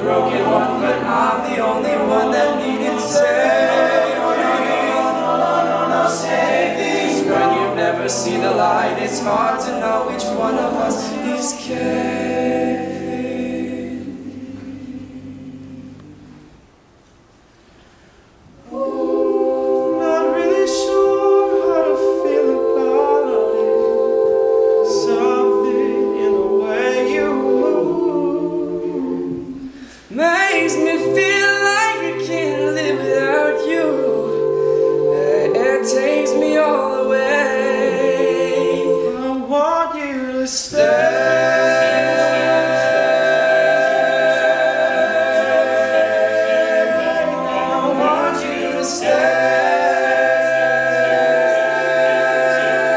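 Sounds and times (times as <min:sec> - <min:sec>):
male group singing in harmony: 0:00.0 - 0:16.5, 0:18.6 - 0:52.9.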